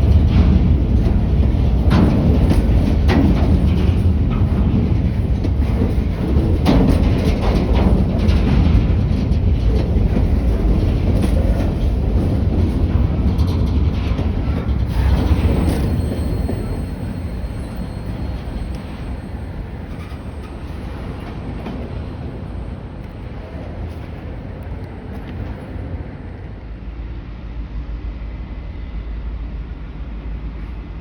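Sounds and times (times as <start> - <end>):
wheels clicking over rail joints: 0.0 - 26.7
train rumbling past: 0.0 - 31.0.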